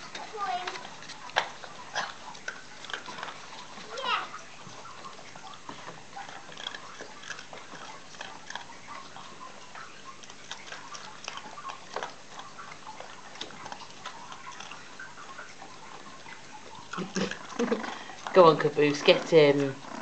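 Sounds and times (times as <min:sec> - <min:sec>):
puppies scuffling with claws clicking: 0:00.0 - 0:20.0
puppy noises: 0:00.0 - 0:20.0.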